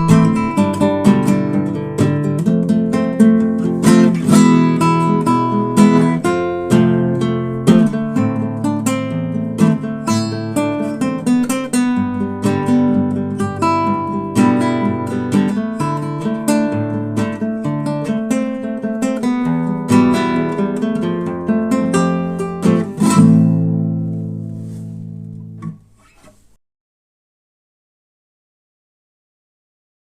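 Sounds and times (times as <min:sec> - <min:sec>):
acoustic guitar playing: 0:00.0 - 0:26.6.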